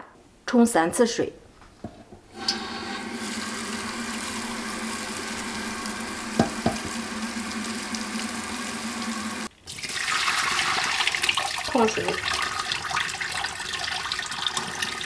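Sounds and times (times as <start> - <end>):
tap water running onto metal plate: 2.4 - 15.0.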